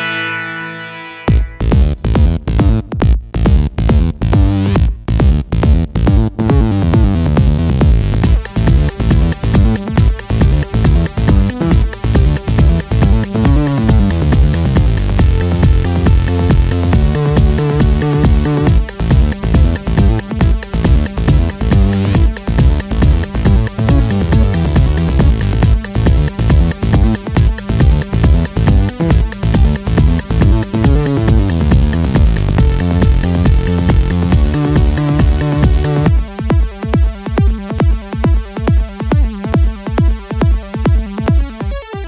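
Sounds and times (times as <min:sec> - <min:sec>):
electronic dance music: 0:00.0 - 0:02.0, 0:08.2 - 0:42.0.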